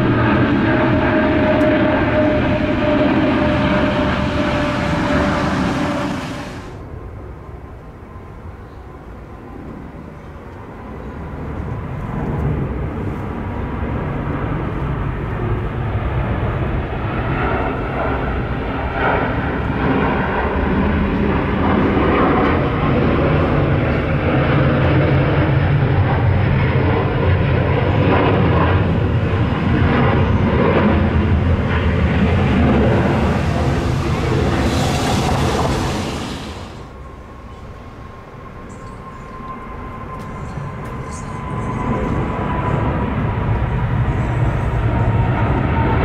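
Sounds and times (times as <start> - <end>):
jet engine rumble with crackle: 0.0 - 46.0.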